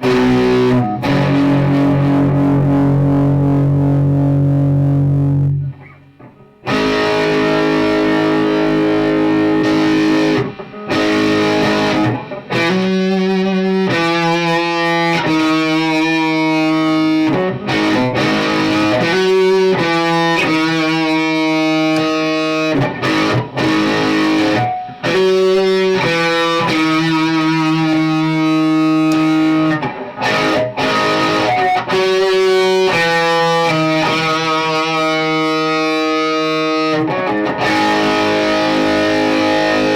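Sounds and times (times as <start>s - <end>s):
electric guitar chords and riffs: 0.0s - 39.9s.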